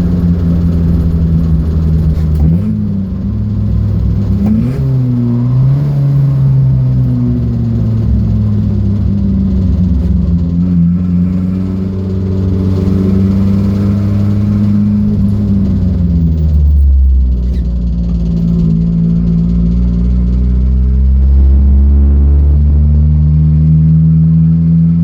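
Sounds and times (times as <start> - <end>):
car engine running hard: 0.0 - 25.0.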